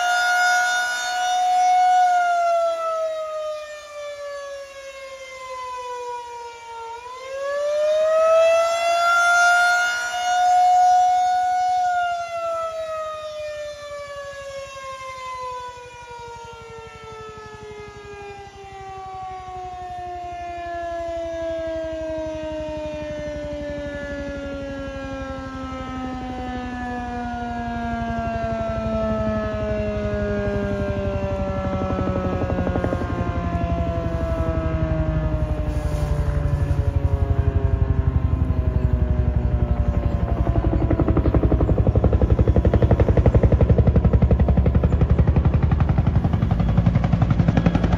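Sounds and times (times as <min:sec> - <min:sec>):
rotating siren wailing: 0:00.0 - 0:47.9.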